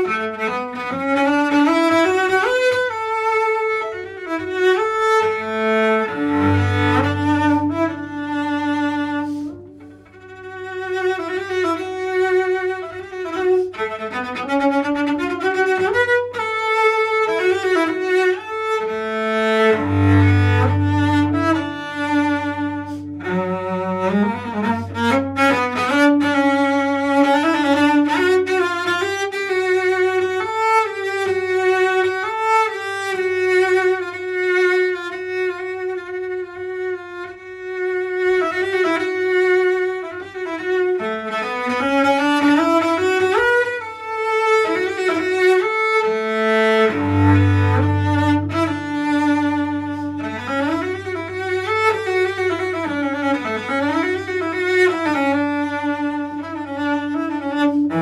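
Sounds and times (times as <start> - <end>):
solo cello bowed fast: 0.0 - 58.0.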